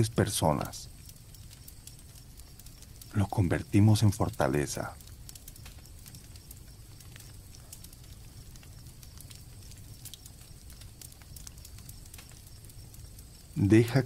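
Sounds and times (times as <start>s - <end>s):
campfire crackling: 0.0s - 14.0s
crickets chirping: 0.0s - 14.0s.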